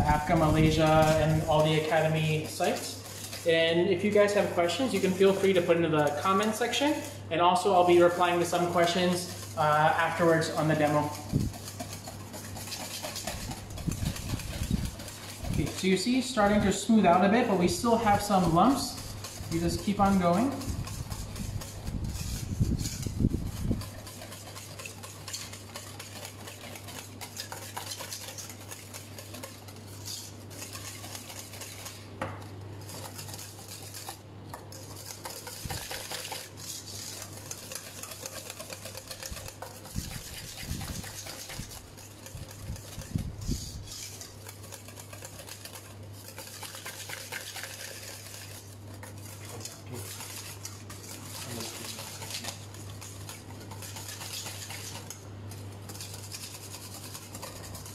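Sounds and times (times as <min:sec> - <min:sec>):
whisk scraping metal bowl: 0:00.0 - 0:57.9.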